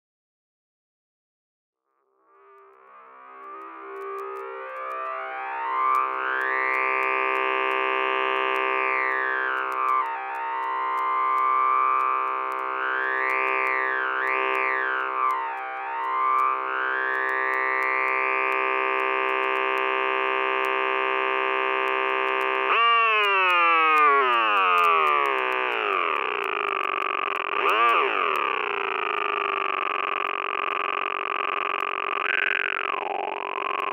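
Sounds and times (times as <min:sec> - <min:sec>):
buzzing synthesizer tone: 0:02.4 - 0:33.9.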